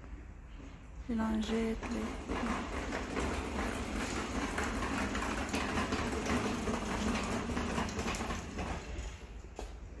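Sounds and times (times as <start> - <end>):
low rumbling shop noise: 0.0 - 10.0.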